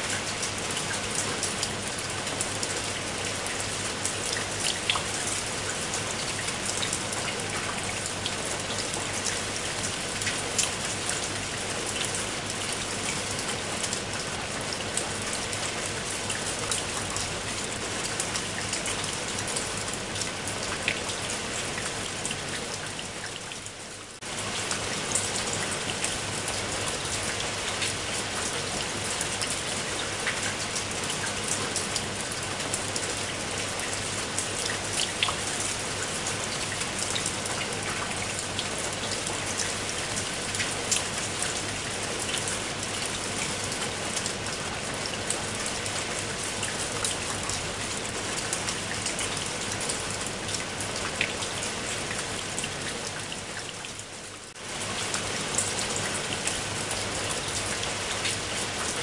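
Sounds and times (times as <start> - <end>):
rain falling: 0.0 - 59.0
raindrops splashing close by: 0.0 - 59.0.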